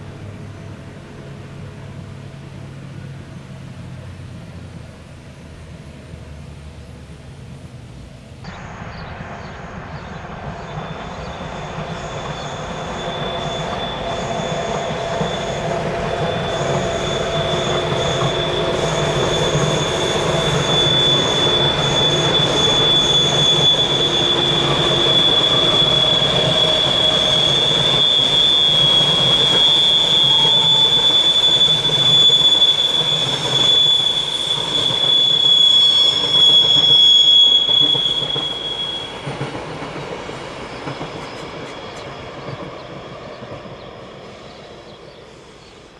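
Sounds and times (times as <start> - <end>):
train wheels squealing on rails: 0.0 - 45.9
train wagons rolling: 8.5 - 45.9.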